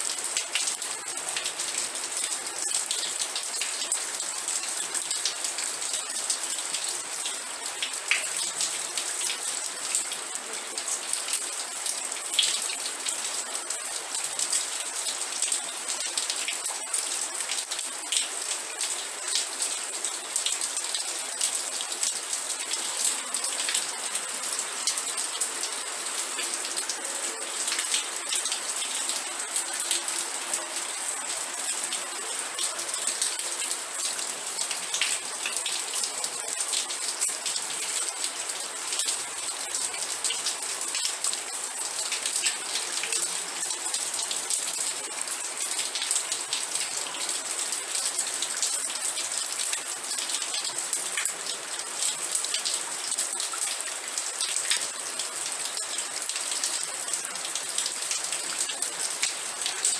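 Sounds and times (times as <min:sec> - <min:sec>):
rain drops pattering: 0:00.0 - 0:59.9.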